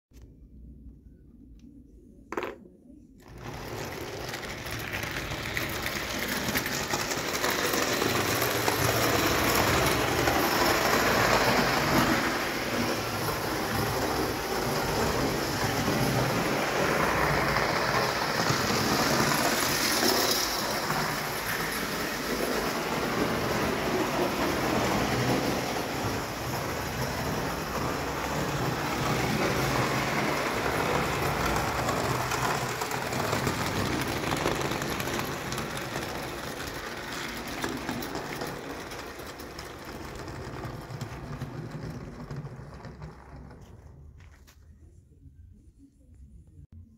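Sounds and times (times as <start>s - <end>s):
toy train whirring and rattling: 3.2s - 44.0s.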